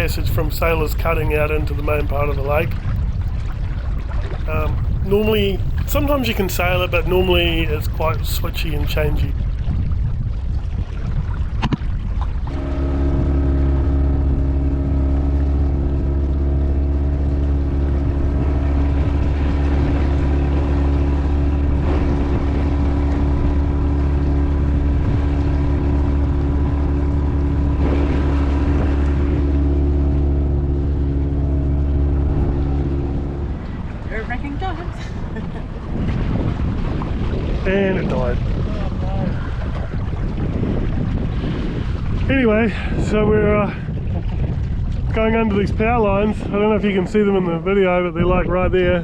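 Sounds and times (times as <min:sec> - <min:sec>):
boat motor running: 0:00.0 - 0:49.0.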